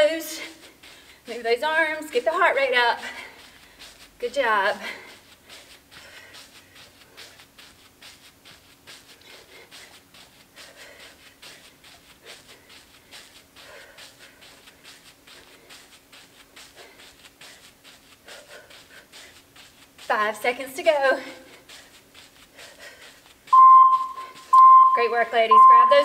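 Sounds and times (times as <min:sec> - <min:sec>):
person panting: 0:00.2 - 0:01.3, 0:02.9 - 0:20.1, 0:20.9 - 0:23.5
soft landings and clothing scuffs: 0:01.9 - 0:25.5.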